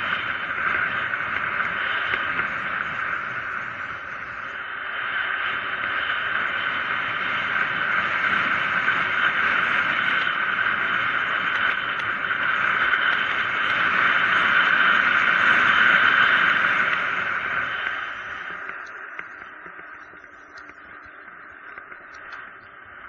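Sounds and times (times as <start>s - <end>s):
wind over camera: 0.0s - 23.0s.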